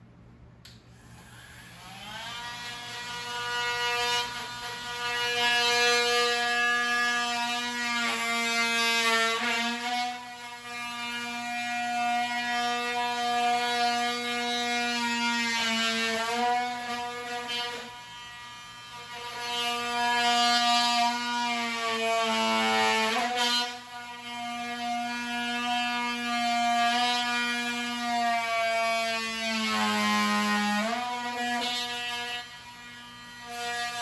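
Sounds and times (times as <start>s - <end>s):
power tool motor whining: 1.0s - 34.0s.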